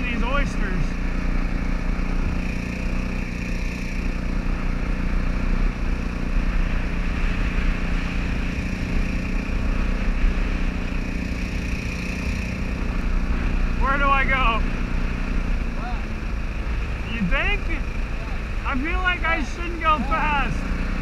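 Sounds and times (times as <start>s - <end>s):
small boat motor running: 0.0s - 21.0s.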